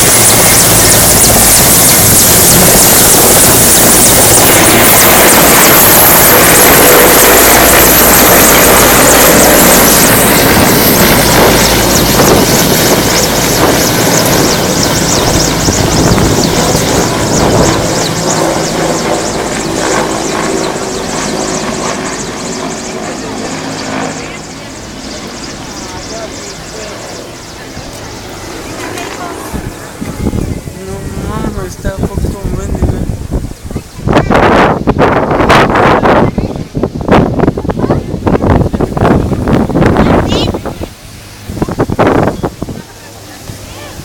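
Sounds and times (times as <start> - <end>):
helicopter rotor and engine: 0.0 - 44.0.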